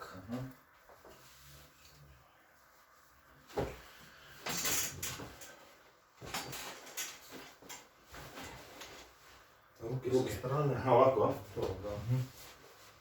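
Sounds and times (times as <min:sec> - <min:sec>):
clothing rustling against table: 0:00.6 - 0:09.8, 0:11.3 - 0:13.0.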